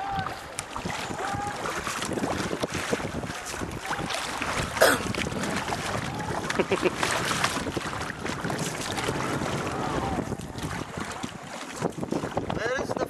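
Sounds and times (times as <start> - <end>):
paddle splashing water: 0.0 - 13.0
wind on microphone: 0.0 - 13.0.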